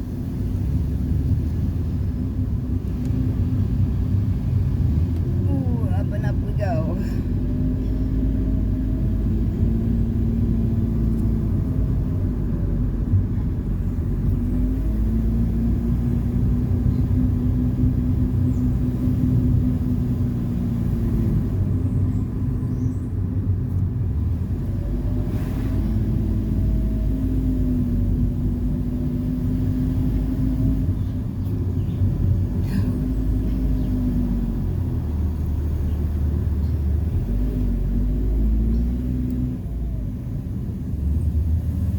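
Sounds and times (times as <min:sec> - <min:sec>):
engine and road rumble: 0:00.0 - 0:41.9
engine hum: 0:00.0 - 0:41.9.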